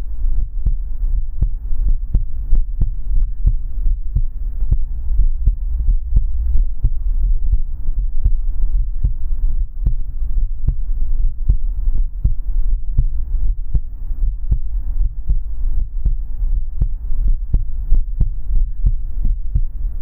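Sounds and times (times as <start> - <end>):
deep constant rumble: 0.0 - 20.0
faint steady hum: 0.0 - 20.0
heartbeat thuds and clicks: 0.0 - 20.0.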